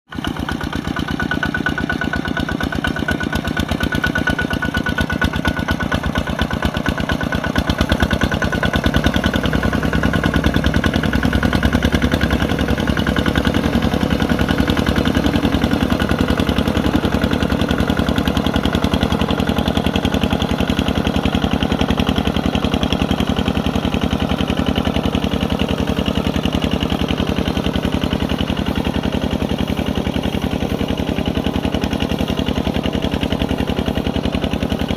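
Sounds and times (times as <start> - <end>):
diesel engine chugging: 0.1 - 34.9.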